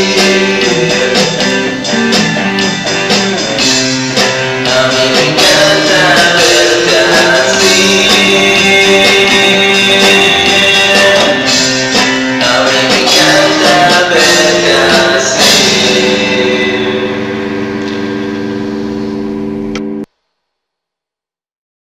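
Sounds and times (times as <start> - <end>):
person singing: 0.0 - 19.3
strummed guitar chords: 0.0 - 20.1.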